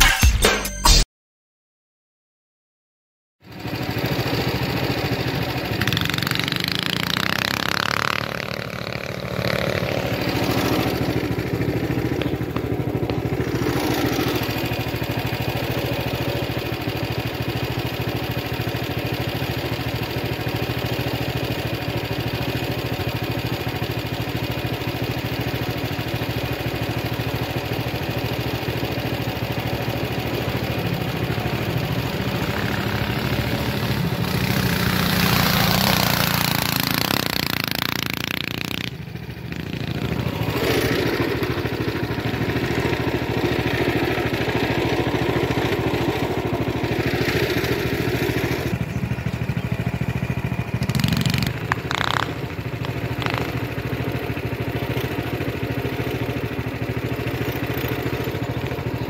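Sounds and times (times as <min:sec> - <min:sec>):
mini bike engine running: 0:03.4 - 0:59.0.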